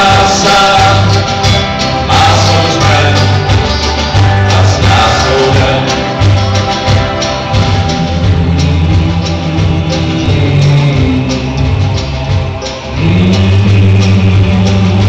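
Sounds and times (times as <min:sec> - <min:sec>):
person singing: 0:00.0 - 0:06.6, 0:07.9 - 0:15.0
bass guitar: 0:00.0 - 0:15.0
drums: 0:00.0 - 0:15.0
electric guitars: 0:00.0 - 0:15.0.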